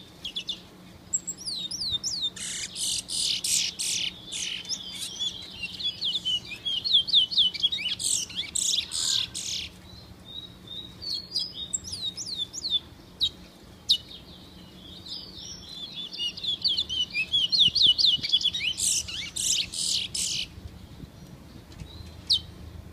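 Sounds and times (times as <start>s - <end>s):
songbird chirping: 0.0s - 22.9s.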